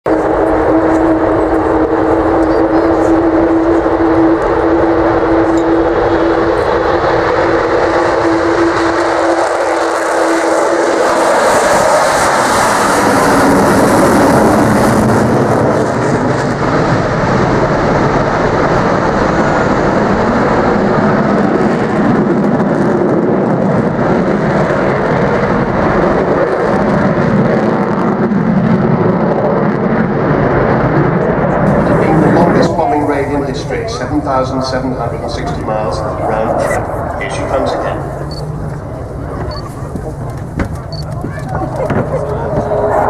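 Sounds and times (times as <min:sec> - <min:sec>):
jet bomber flying past: 0:00.1 - 0:43.0.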